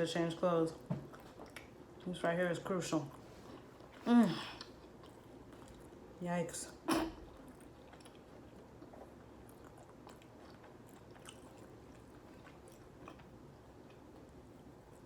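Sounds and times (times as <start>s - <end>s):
faint chewing: 0.8s - 2.2s, 3.0s - 6.2s, 6.9s - 15.0s.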